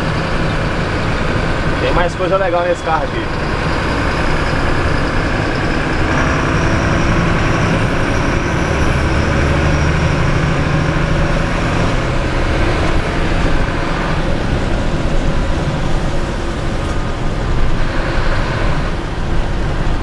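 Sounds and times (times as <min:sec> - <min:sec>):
bus diesel engine running: 0:00.0 - 0:20.0
road noise: 0:00.0 - 0:20.0.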